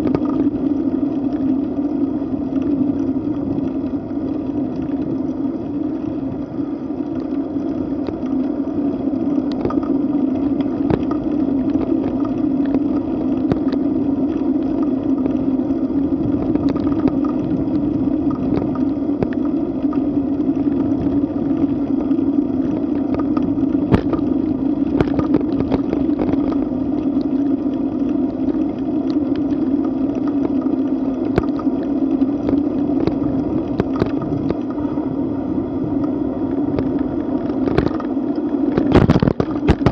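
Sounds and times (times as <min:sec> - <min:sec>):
bike clicks and rattles: 0:00.0 - 0:35.1, 0:36.0 - 0:39.9
wind and road noise: 0:00.0 - 0:39.9.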